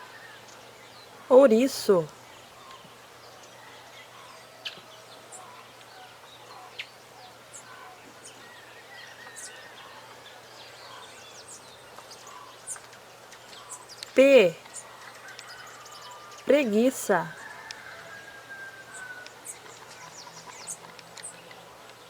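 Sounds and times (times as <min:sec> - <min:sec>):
low steady hiss: 0:00.0 - 0:22.0.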